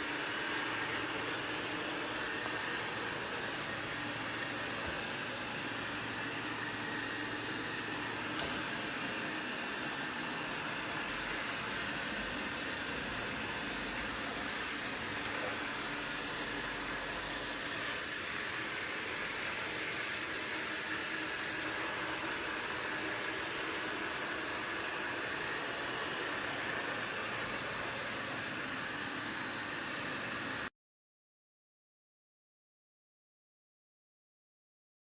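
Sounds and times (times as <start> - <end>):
robot vacuum whirring: 0.0 - 30.7.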